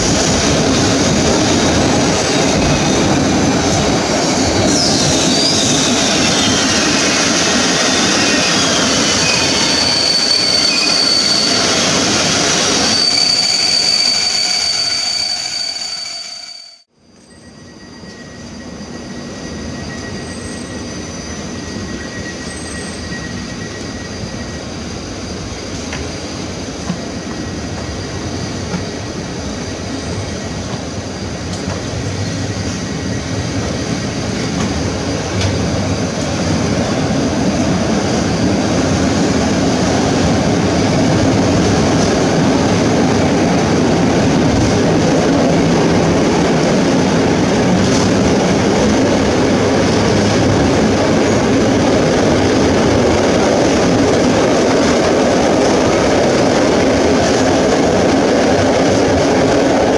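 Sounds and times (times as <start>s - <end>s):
train rumble and rail noise: 0.0s - 59.9s.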